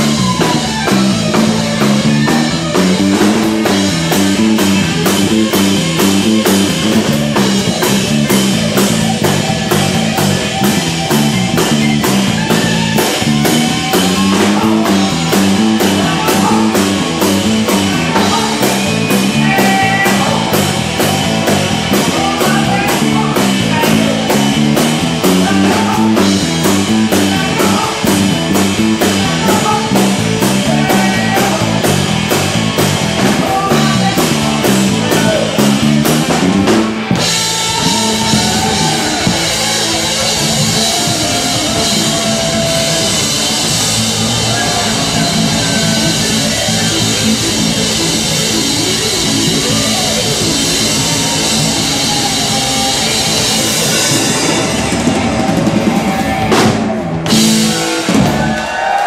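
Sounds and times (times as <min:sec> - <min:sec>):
drum kit beat: 0:00.0 - 0:59.0
electric bass: 0:00.0 - 0:59.0
electric guitar: 0:00.0 - 0:59.0.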